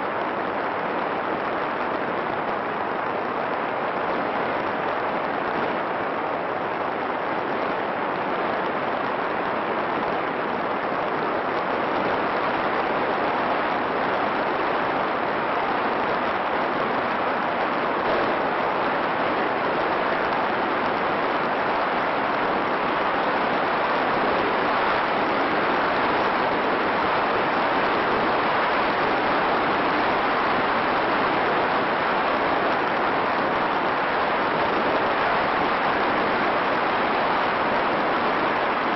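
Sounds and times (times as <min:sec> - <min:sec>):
steady rushing hiss: 0:00.0 - 0:38.9.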